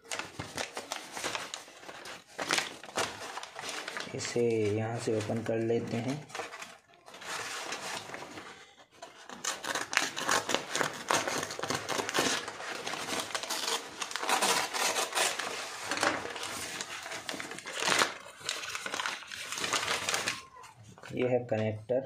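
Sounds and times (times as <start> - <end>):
paper envelope crinkling and tearing: 0.0 - 21.2.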